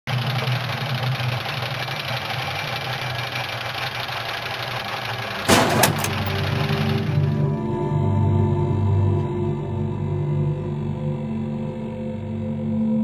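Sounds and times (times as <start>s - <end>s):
machinery droning and rattling: 0.1s - 13.0s.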